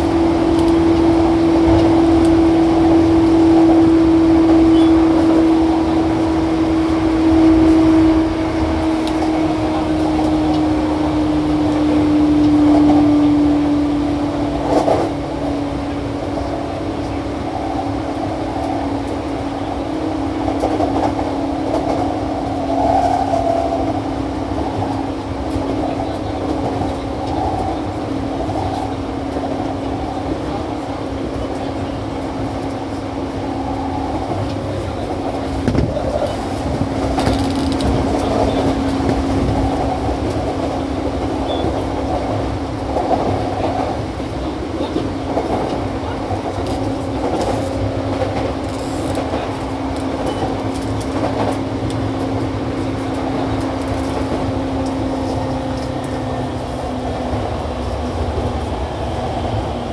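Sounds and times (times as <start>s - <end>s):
steady train hum: 0.0s - 59.9s
train wheels rumbling on rail: 0.0s - 59.9s.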